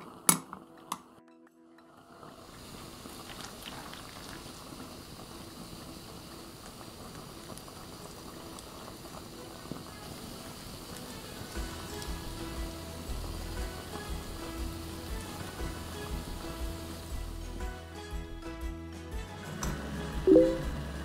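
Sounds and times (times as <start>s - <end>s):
music: 0.2s - 2.6s, 6.4s - 21.0s
broth bubbling in a pot: 1.9s - 17.6s, 19.4s - 21.0s.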